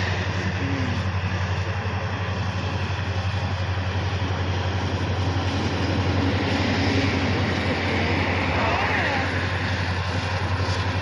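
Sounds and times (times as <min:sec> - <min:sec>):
low hum: 0:00.0 - 0:11.0
train roaring by: 0:00.0 - 0:11.0.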